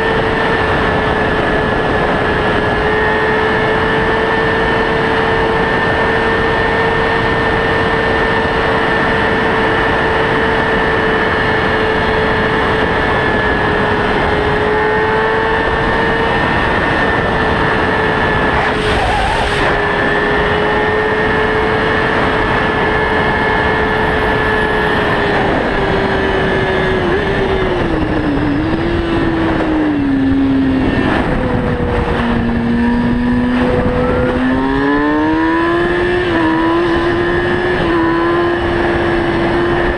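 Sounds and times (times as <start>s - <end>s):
motorcycle engine revving high: 0.0s - 39.9s
rushing wind noise: 0.0s - 39.9s.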